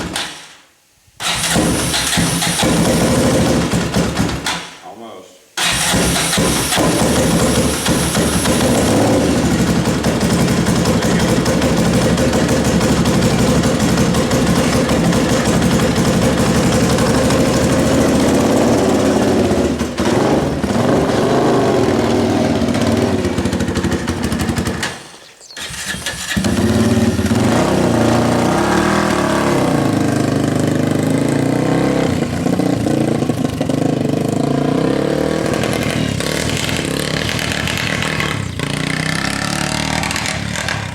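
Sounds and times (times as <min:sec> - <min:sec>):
atv engine revving: 0:01.2 - 0:04.6, 0:05.6 - 0:40.9.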